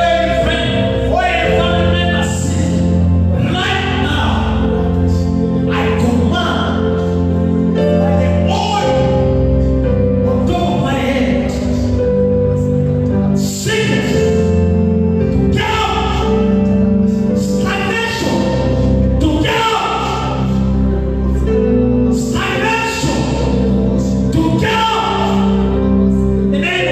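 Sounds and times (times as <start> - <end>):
gospel singing: 0.0 - 26.9
sustained chords: 0.0 - 26.9.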